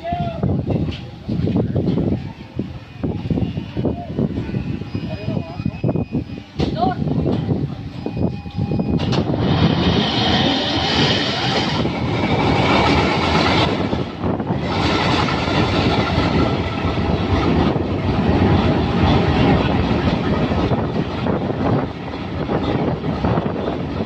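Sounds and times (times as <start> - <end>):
diesel locomotive engine running: 0.1 - 24.0.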